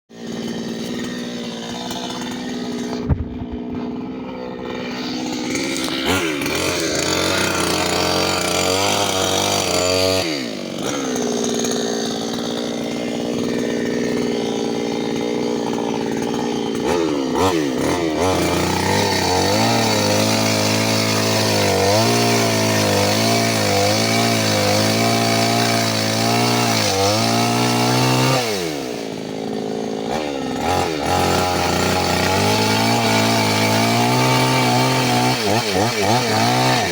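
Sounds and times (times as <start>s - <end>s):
chainsaw revving: 0.1s - 36.9s.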